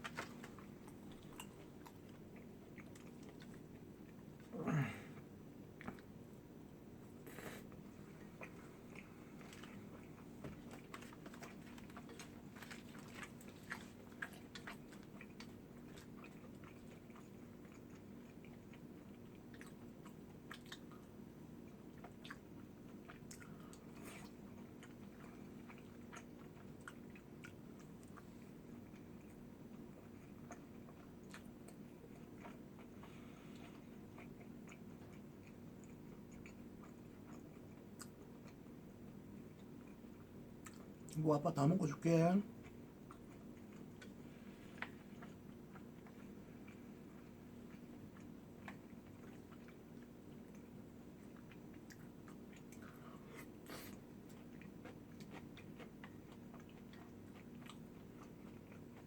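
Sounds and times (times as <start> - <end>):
person chewing crunchy food: 0.0 - 41.2, 42.5 - 59.0
steady low hum: 0.0 - 59.0.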